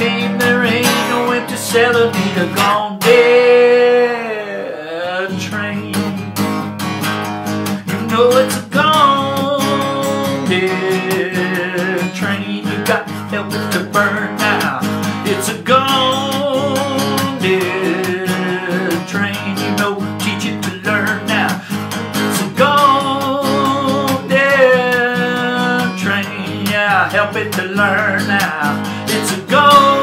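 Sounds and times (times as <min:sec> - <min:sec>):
man singing long notes: 0:00.0 - 0:06.2, 0:07.9 - 0:21.7, 0:22.3 - 0:30.0
acoustic guitar strumming: 0:00.0 - 0:30.0.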